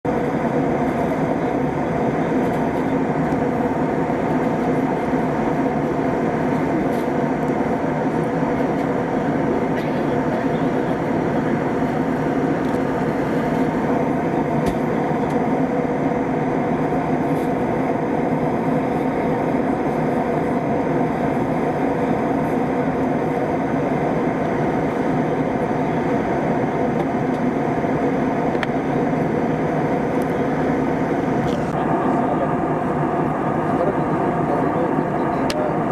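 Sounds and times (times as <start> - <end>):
jet engine drone in cabin: 0.0 - 35.9.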